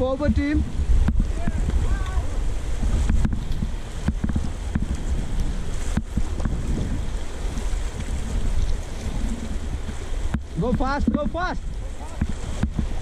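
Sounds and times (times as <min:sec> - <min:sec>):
paddling: 0:00.0 - 0:13.0
river water rushing: 0:00.0 - 0:13.0
wind on microphone: 0:00.0 - 0:13.0.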